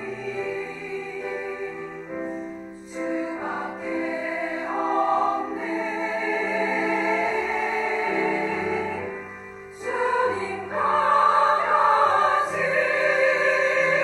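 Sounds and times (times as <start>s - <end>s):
piano accompaniment: 0.0s - 14.0s
women's choir singing a hymn: 0.0s - 14.0s.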